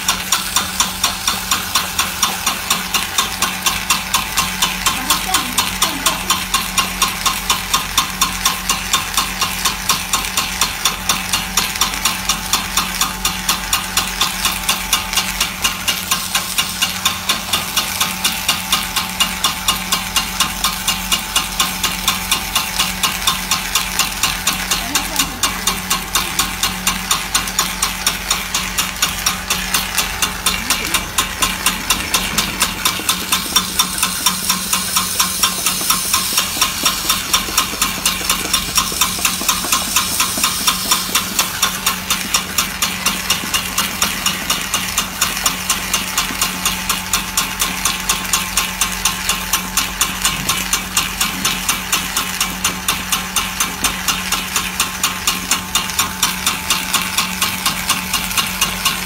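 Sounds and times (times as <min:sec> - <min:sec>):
machine hum with hiss: 0:00.0 - 0:59.0
rapid even ticking: 0:00.0 - 0:59.0.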